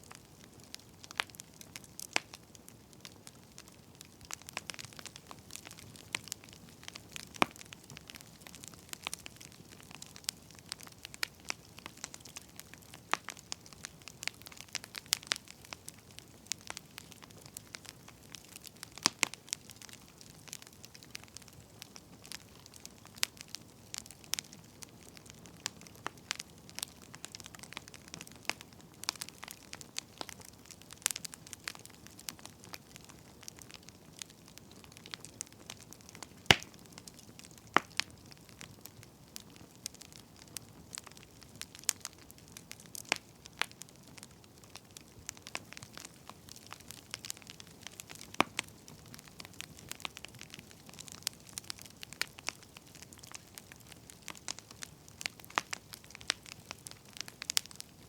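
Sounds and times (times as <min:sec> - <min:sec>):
firewood crackling: 0:00.0 - 0:58.0.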